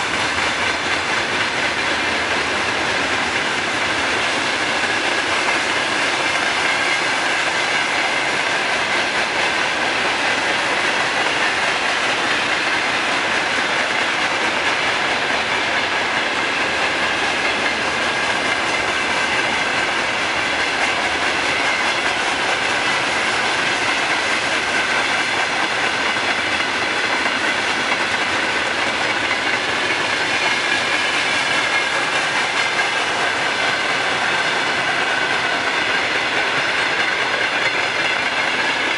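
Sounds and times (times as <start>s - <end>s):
train wheels clattering: 0.0s - 38.9s
wheels squealing on rails: 0.0s - 38.9s.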